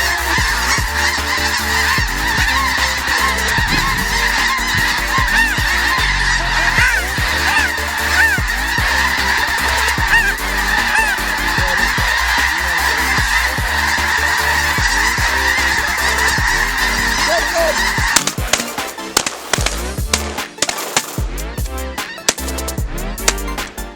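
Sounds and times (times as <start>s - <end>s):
flock of geese honking: 0.0s - 19.8s.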